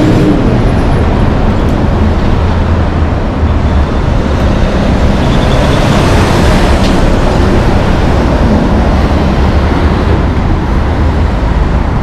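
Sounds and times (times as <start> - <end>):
low engine drone: 0.0 - 12.0
trucks passing: 0.0 - 12.0
tyre and trailer rumble: 0.0 - 12.0.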